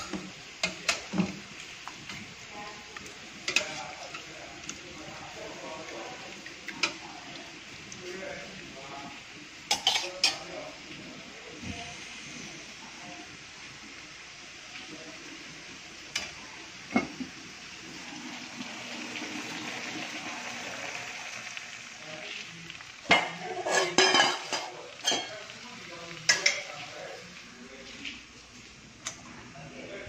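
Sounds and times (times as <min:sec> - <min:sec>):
vegetables sizzling in a wok: 0:00.0 - 0:30.0.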